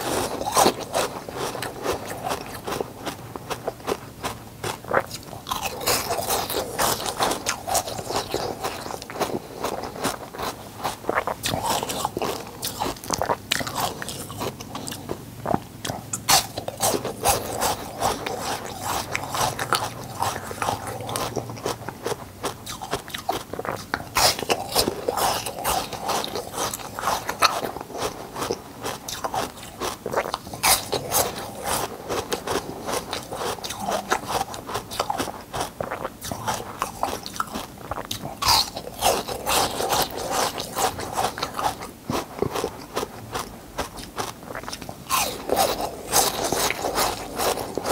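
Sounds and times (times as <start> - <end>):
ice crunching between teeth: 0.0 - 47.9.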